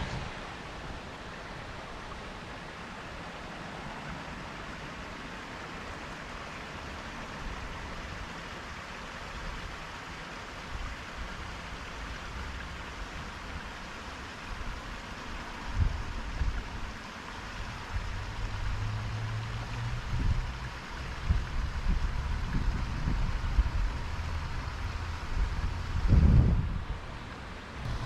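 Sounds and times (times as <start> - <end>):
creek flowing: 0.0 - 28.0.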